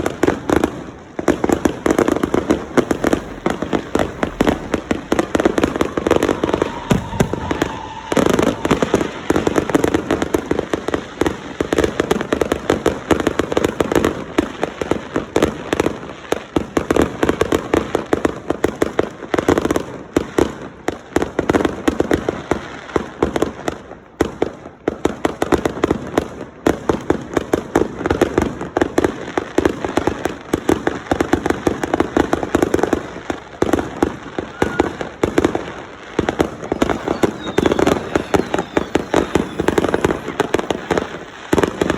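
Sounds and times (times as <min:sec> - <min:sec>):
fireworks crackling bangs: 0:00.0 - 0:41.9.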